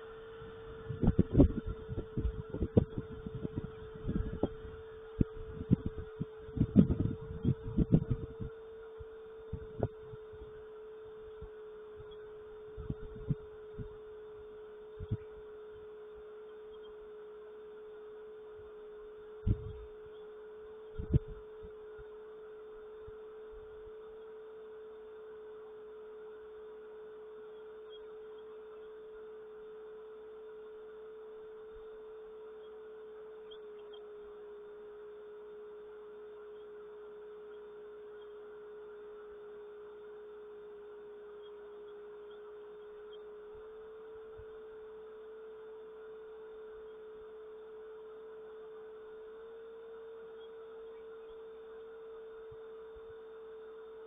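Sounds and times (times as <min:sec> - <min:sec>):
steady humming tone: 0:00.0 - 0:54.0.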